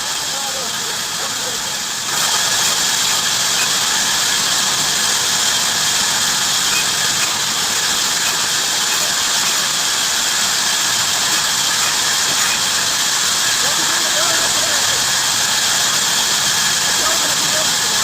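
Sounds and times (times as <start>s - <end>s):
bandsaw whining: 0.0s - 18.0s.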